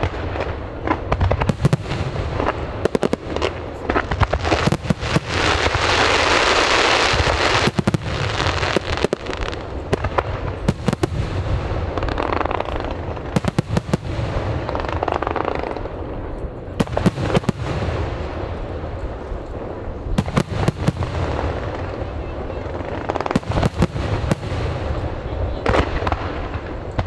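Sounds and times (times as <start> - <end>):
crackling hiss: 0.0 - 27.0
fireworks bangs: 0.0 - 27.0.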